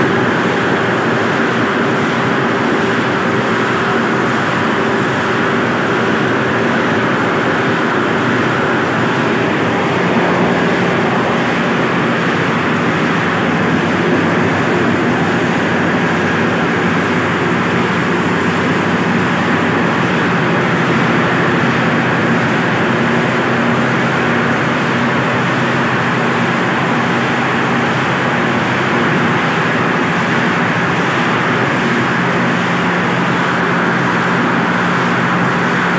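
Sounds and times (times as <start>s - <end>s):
machinery running with low hum: 0.0s - 35.9s.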